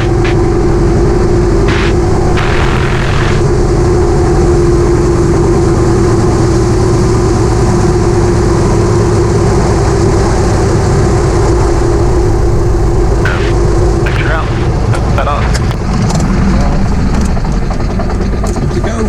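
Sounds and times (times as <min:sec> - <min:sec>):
radial aircraft engine idling: 0:00.0 - 0:19.0.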